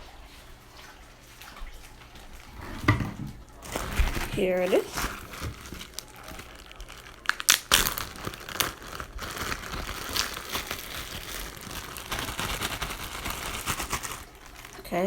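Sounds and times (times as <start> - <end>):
crinkling and crackling: 1.9 - 15.0.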